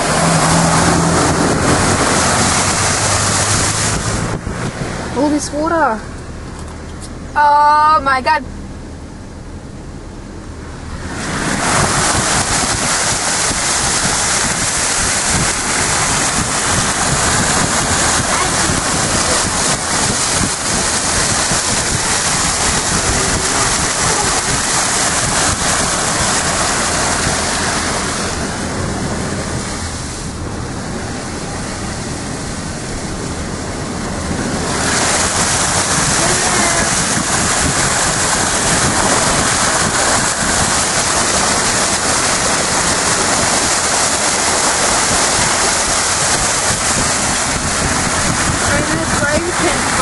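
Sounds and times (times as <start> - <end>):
water rushing against car: 0.0 - 50.0.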